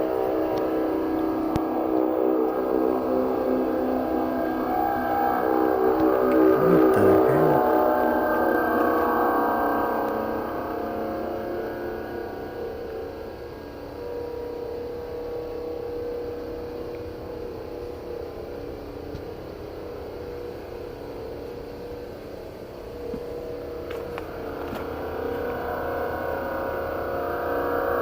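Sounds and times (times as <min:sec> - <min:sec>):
droning hum of held tones: 0:00.0 - 0:28.0.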